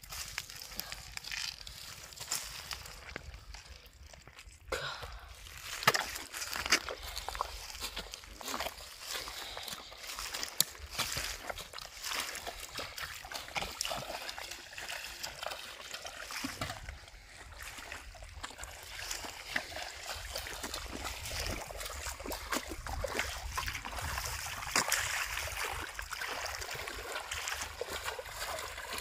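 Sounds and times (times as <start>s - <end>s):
water splashing: 5.6s - 29.0s.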